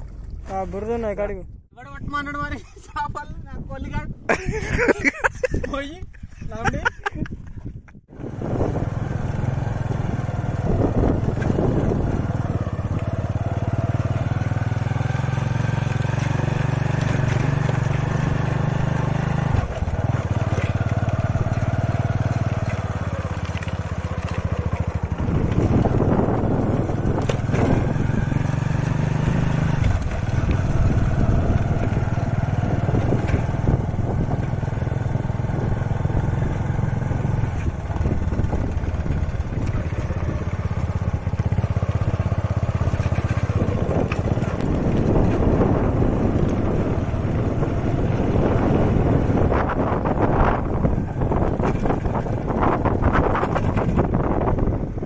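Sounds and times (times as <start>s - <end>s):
motorcycle engine running: 8.0s - 55.0s.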